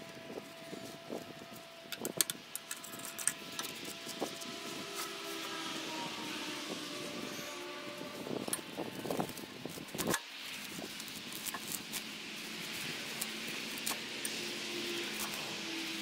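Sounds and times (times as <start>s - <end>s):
dry grass rustling: 0.0s - 16.0s.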